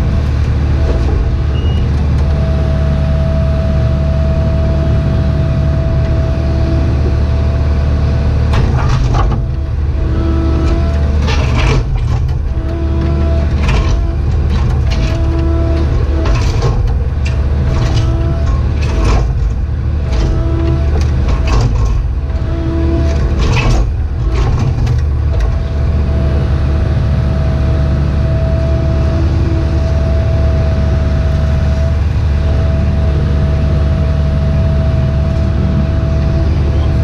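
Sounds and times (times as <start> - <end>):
excavator diesel engine whining: 0.0 - 37.0.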